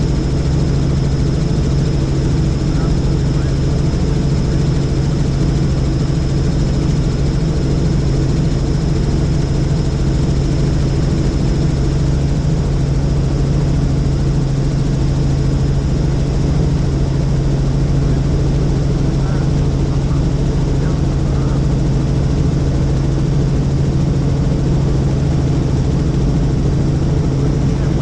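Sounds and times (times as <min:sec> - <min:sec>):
helicopter flying: 0:00.0 - 0:28.0.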